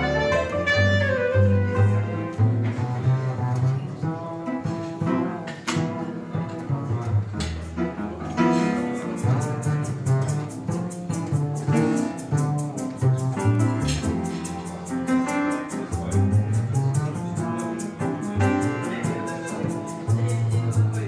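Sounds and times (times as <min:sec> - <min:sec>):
piano playing bossa nova: 0:00.0 - 0:21.0
plucked double bass: 0:00.0 - 0:21.0.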